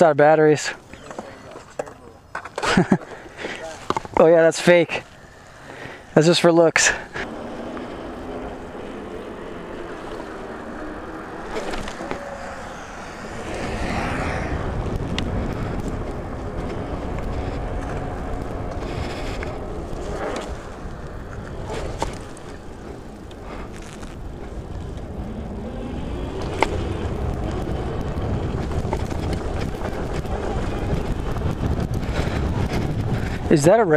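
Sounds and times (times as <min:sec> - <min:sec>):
tyres rolling on concrete: 0:00.0 - 0:33.9
wind buffeting microphone: 0:00.6 - 0:33.9.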